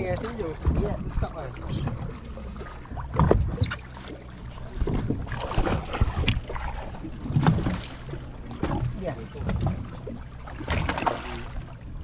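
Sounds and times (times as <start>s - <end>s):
boat engine humming: 0.0s - 12.0s
water splashing against hull: 0.0s - 12.0s.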